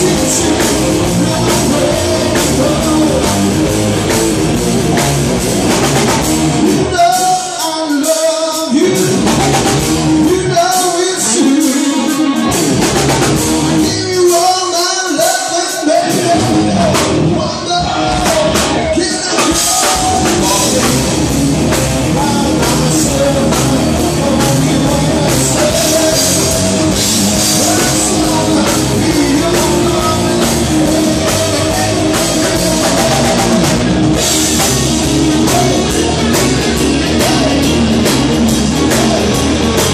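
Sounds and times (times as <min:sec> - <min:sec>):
person singing: 0:00.0 - 0:04.2, 0:06.6 - 0:39.9
live rock band playing: 0:00.0 - 0:39.9.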